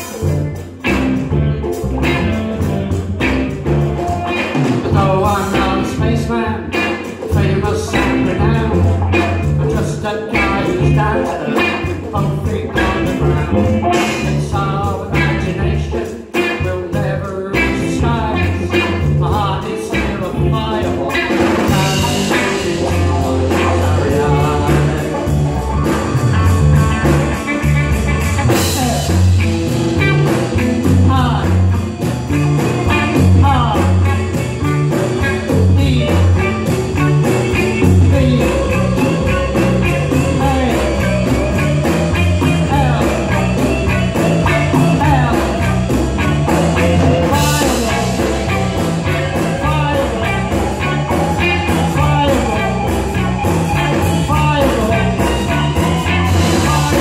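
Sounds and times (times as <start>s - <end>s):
live rock band playing: 0.0s - 57.0s
male lead vocal: 4.8s - 26.0s, 28.5s - 29.4s, 30.8s - 31.8s, 32.8s - 57.0s.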